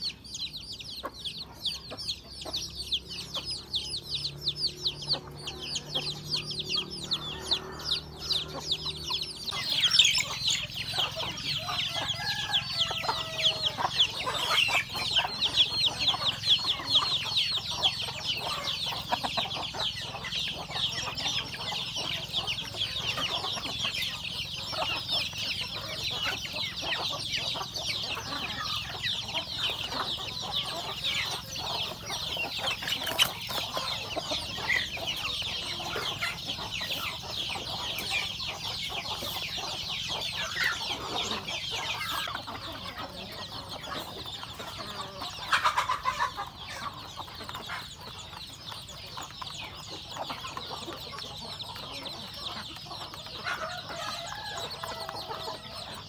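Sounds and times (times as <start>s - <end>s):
chicks peeping: 0.0s - 56.0s
hens clucking: 0.0s - 56.0s.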